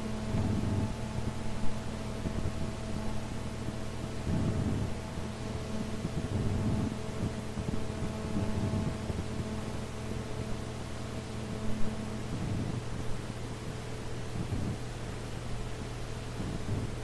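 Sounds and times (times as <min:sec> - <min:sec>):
faint mains hum: 0:00.0 - 0:17.0
low background rumble: 0:00.0 - 0:17.0
recording hiss: 0:00.0 - 0:17.0.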